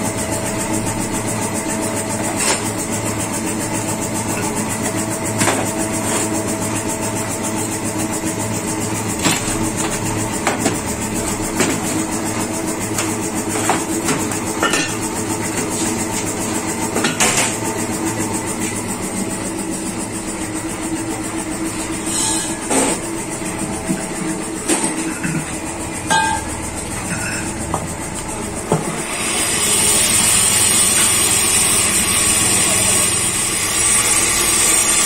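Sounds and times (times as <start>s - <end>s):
machinery humming: 0.0s - 35.0s.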